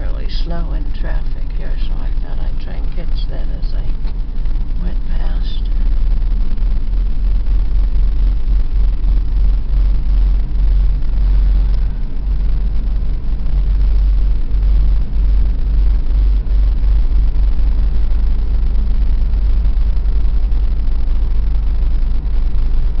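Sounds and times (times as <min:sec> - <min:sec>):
engine and road rumble in cab: 0:00.0 - 0:23.0.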